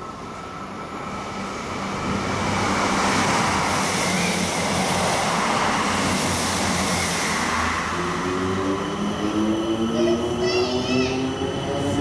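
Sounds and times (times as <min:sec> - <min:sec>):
train wheel and motor rush: 0:00.0 - 0:12.0.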